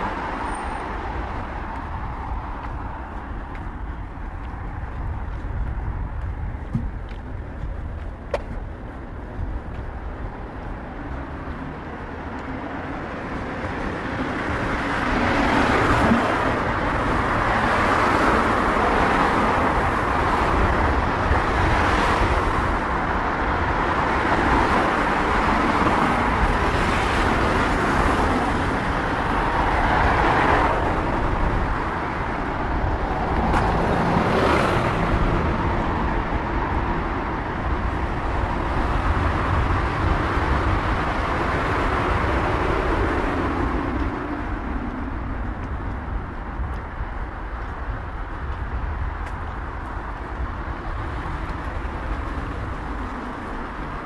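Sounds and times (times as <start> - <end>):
cars passing: 0.0 - 54.0
low traffic rumble: 0.0 - 54.0.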